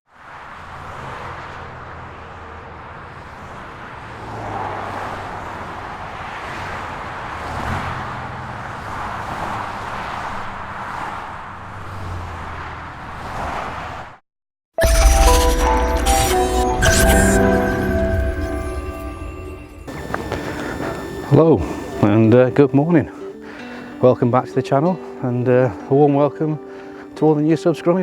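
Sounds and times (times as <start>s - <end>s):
road traffic passing: 0.1s - 14.2s, 15.6s - 27.3s.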